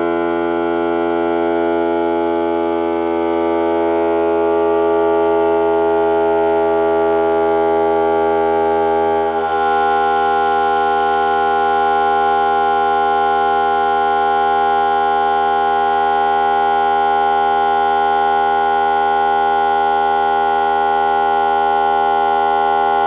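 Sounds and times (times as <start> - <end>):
air compressor droning whine: 0.0 - 23.0.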